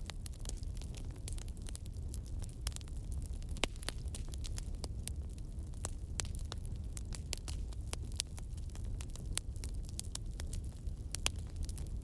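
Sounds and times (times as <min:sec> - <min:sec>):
campfire crackling and popping: 0:00.0 - 0:12.0
low rumble of flames: 0:00.0 - 0:12.0.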